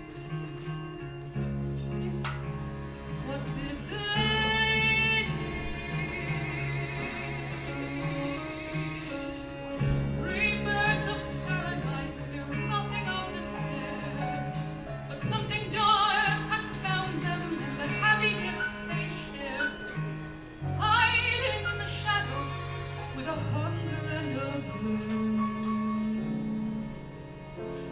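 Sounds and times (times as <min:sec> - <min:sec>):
band with piano bass and strings: 0:00.0 - 0:27.9
woman singing with vibrato: 0:03.0 - 0:27.1.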